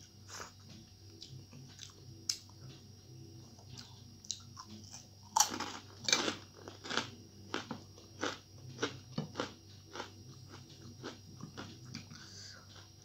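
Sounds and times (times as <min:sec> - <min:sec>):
person chewing: 0:00.3 - 0:02.4, 0:03.6 - 0:13.0.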